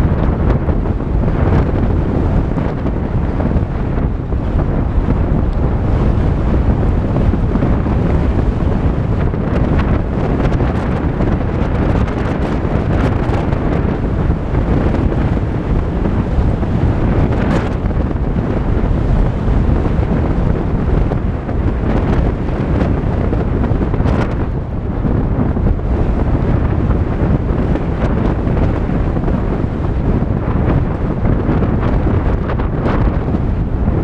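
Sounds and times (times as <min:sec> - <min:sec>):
car driving on dirt road: 0:00.0 - 0:34.0
wind on microphone: 0:00.0 - 0:34.0.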